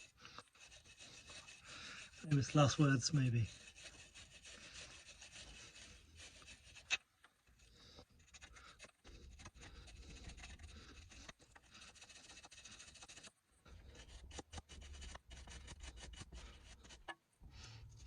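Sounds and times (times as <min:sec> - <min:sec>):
faint scraping and rubbing: 0:00.0 - 0:18.0.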